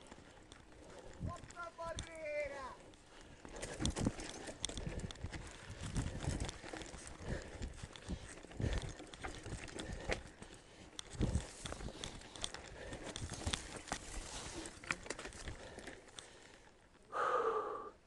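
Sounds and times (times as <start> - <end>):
bike clattering over stones: 0.0 - 16.4.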